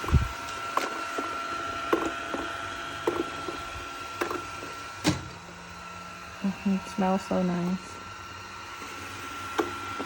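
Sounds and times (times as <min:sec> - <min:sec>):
robot vacuum high whine: 0:00.0 - 0:10.0.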